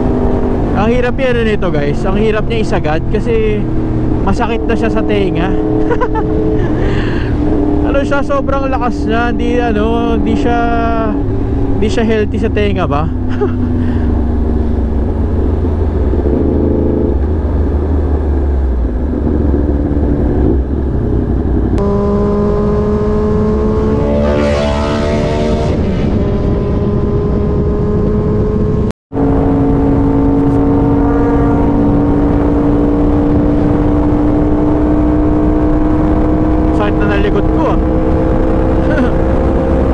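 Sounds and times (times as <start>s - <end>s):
loud motorcycle engine: 0.0s - 39.9s.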